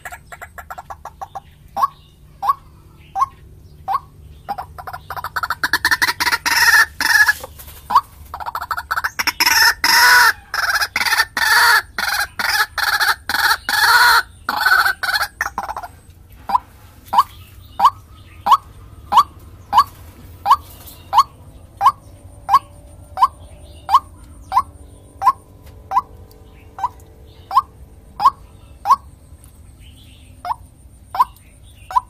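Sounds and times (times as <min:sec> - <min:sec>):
bird calling harsh repeated notes: 0:00.0 - 0:29.2, 0:30.4 - 0:32.0.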